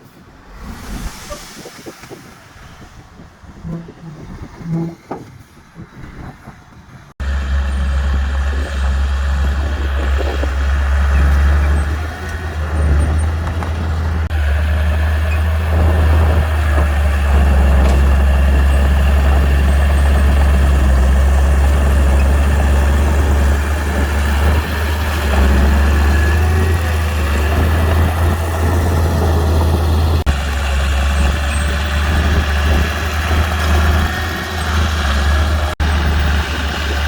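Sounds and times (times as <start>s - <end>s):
diesel engine low rumble: 0.0s - 37.0s.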